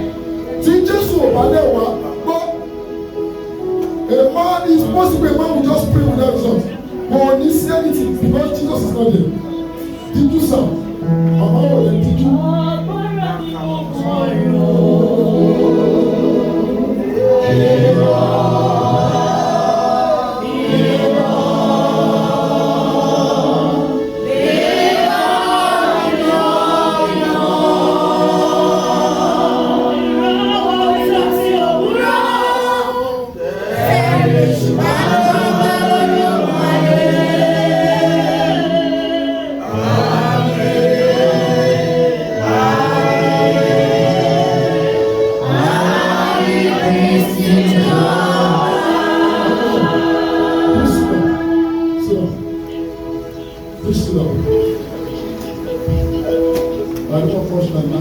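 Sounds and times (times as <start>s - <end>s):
choir and congregation singing hymn: 0.0s - 58.0s.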